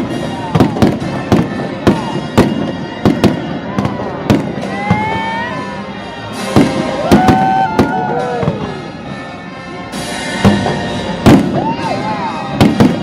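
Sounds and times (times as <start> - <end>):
fireworks bangs: 0.0 - 8.9, 10.2 - 13.0.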